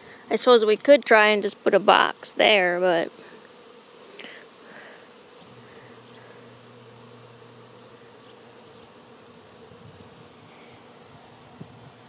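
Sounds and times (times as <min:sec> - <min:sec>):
bee swarm humming: 0:00.0 - 0:12.0.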